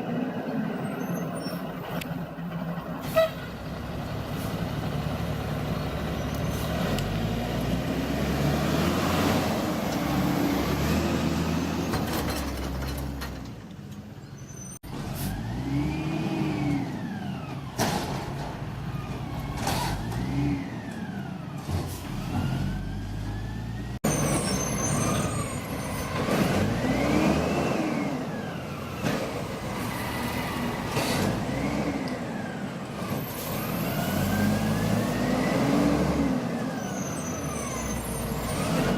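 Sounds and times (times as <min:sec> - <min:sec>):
diesel truck engine revving: 0:03.0 - 0:13.2, 0:14.8 - 0:17.8, 0:18.6 - 0:38.9.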